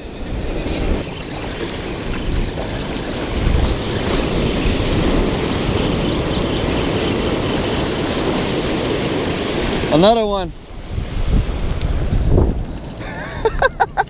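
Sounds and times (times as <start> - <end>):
ocean surf breaking: 0.0 - 13.6
wind rumbling on microphone: 0.0 - 14.0.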